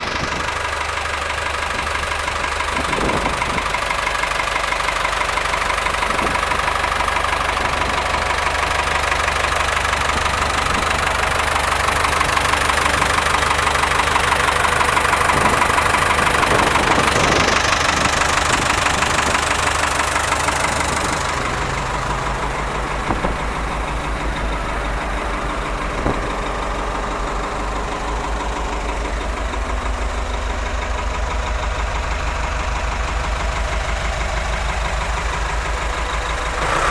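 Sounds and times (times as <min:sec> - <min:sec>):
tractor diesel engine idling: 0:00.0 - 0:36.9.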